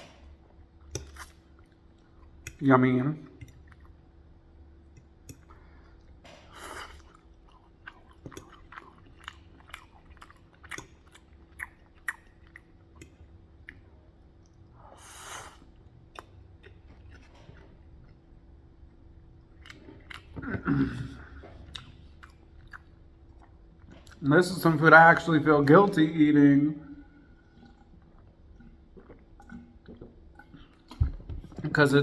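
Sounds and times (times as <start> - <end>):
person chewing: 0.0 - 2.6, 3.3 - 18.4, 19.3 - 24.2, 27.0 - 31.0.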